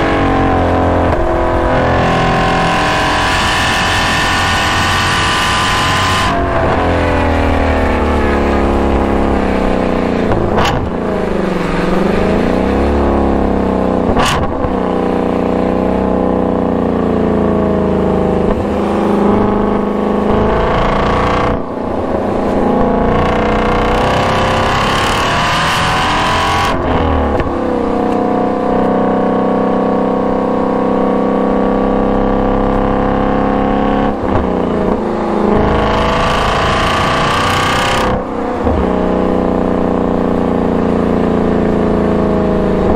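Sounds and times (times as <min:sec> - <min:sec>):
sports car engine revving: 0:00.0 - 0:42.9.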